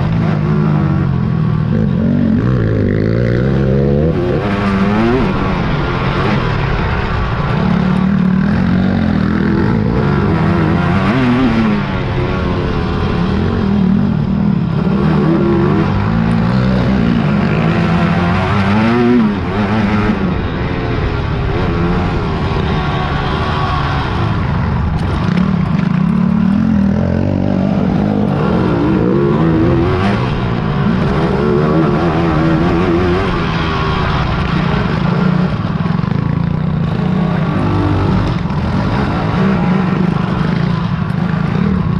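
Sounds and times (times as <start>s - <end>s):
racing quad engines revving: 0.0s - 41.9s.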